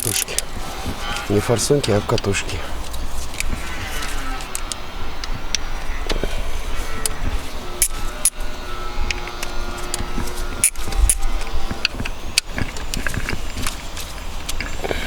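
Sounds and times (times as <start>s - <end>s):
hand tools clicking on metal: 0.0s - 15.0s
steady low rumble: 0.0s - 15.0s.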